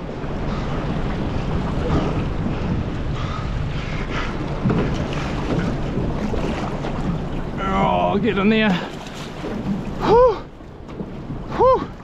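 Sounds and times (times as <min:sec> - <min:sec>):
waves slapping boat hull: 0:00.0 - 0:12.0
wind buffeting microphone: 0:00.0 - 0:12.0.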